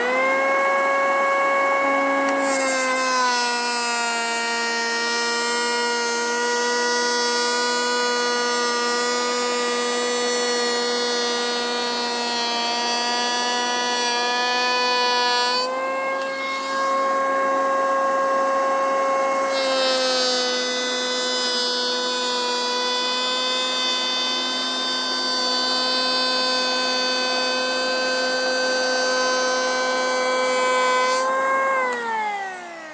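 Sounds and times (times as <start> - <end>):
electric hand planer whining: 0.0 - 32.9
planer cutting hiss: 0.0 - 32.9.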